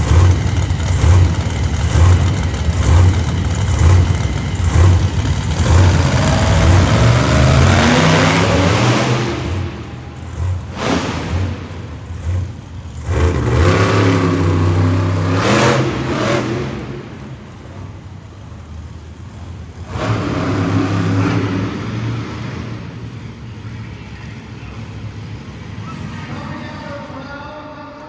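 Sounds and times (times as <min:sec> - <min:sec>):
truck engine revving hard: 0:00.0 - 0:26.2.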